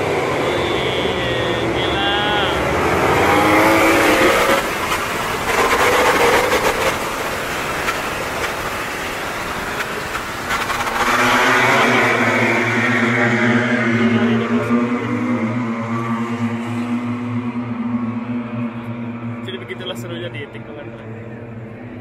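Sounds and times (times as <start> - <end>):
racing motorcycles accelerating: 0.0 - 22.0.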